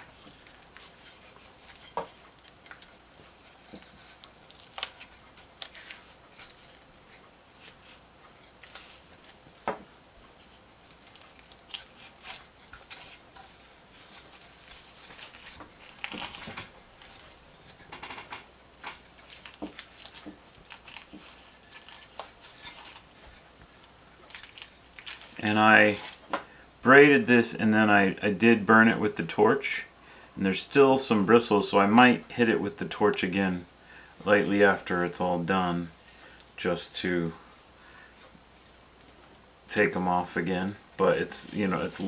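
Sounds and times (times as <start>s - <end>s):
twine rustling and scraping: 0.0s - 42.0s.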